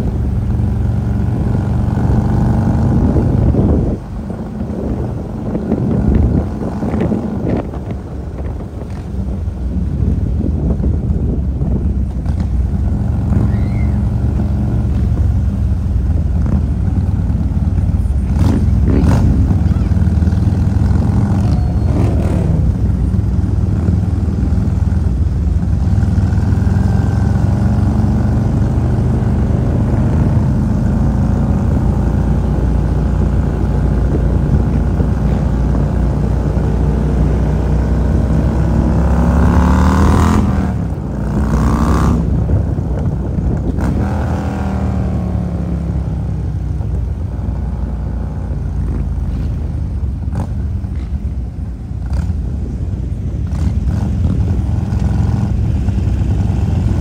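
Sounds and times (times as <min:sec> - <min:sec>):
group of motorcycles: 0:00.0 - 0:57.0
motorcycle engine running: 0:00.0 - 0:57.0.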